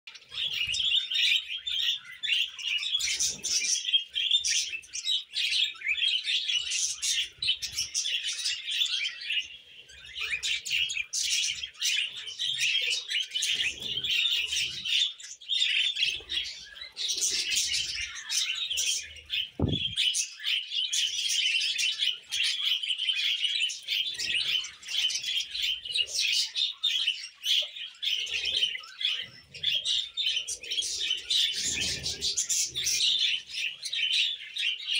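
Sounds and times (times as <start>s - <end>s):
budgerigars chattering and warbling: 0.1s - 34.9s.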